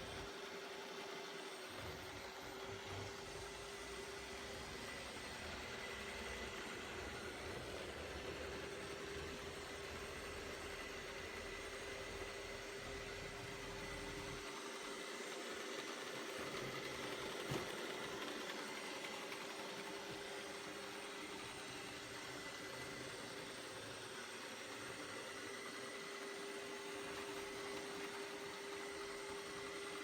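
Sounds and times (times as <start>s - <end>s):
robot vacuum motor and fan: 0.0s - 30.0s.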